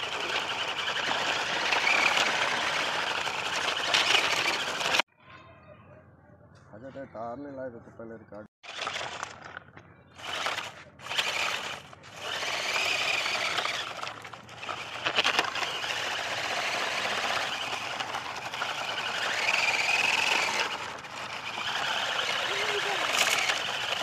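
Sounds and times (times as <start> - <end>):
toy tractor wheels rattling on dirt: 0.0 - 5.1, 8.6 - 24.0.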